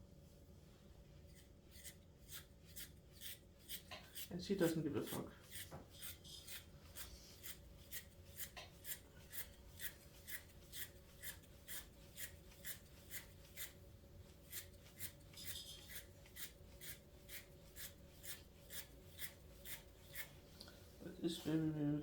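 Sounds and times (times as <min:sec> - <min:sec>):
stripping knife rasping dog coat: 0:01.3 - 0:20.4.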